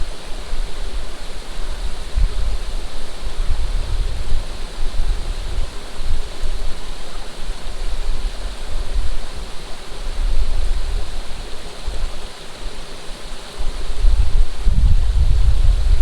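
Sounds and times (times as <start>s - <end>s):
water rushing: 0.0s - 16.0s
wind buffeting microphone: 0.0s - 16.0s.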